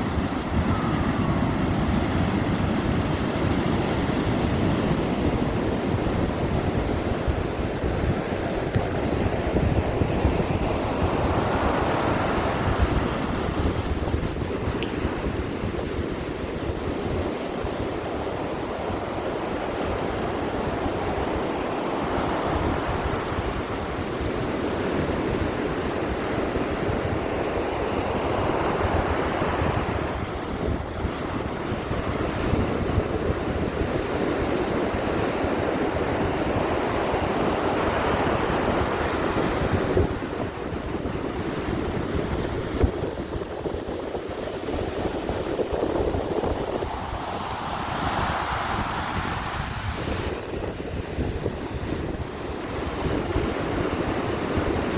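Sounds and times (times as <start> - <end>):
ocean surf washing ashore: 0.0 - 54.9
wind on microphone: 0.0 - 54.9.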